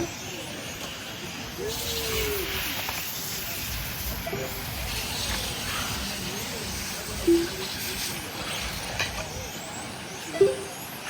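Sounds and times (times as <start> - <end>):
faint motor whines: 0.0 - 11.0
rc car motors and tyres hissing: 0.0 - 11.0.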